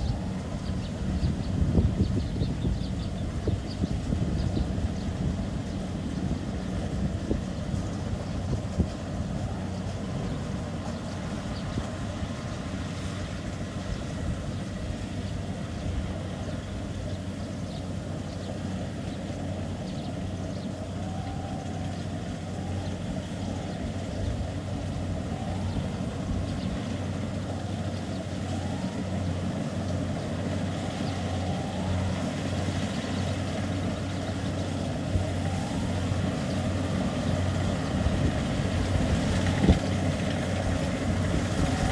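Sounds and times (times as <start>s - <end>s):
combine harvester engine drone: 0.0s - 41.9s.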